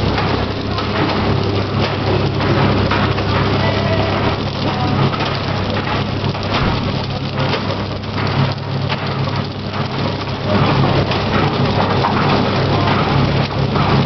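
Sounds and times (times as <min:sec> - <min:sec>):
wrapping machine humming and hissing: 0:00.0 - 0:14.0.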